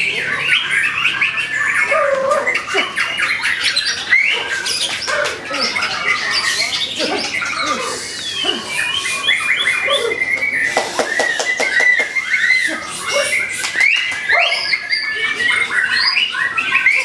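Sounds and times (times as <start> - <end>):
bird song with rattling chatter: 0.0 - 17.0.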